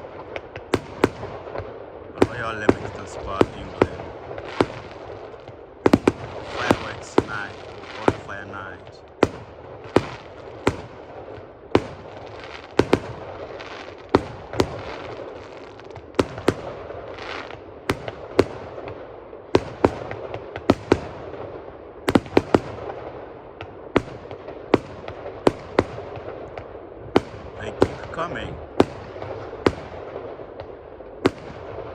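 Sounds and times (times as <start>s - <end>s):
fireworks bangs: 0.0s - 31.9s
fireworks display background noise: 0.0s - 31.9s.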